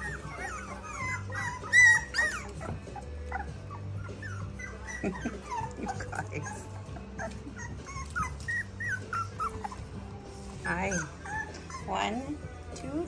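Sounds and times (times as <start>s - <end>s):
puppy yips: 0.0s - 6.6s, 7.2s - 9.9s, 10.6s - 12.2s
puppies whimpering and squealing: 0.0s - 12.8s.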